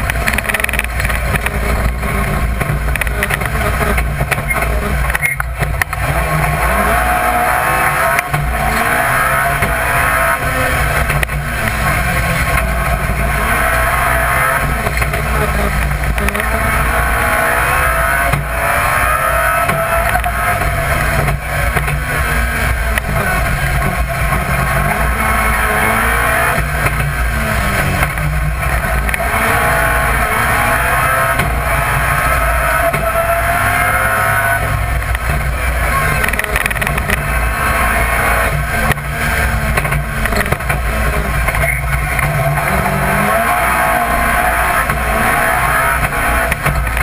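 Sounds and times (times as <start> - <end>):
car engine revving hard: 0.0 - 47.0
road and tyre rumble: 0.0 - 47.0.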